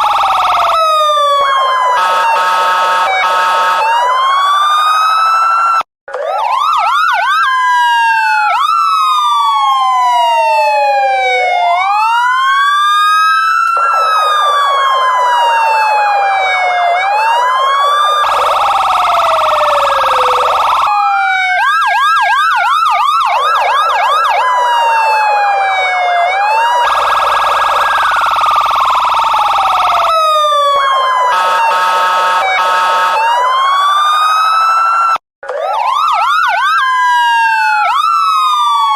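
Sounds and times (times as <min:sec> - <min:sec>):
police car sirens wailing and yelping: 0:00.0 - 0:38.9.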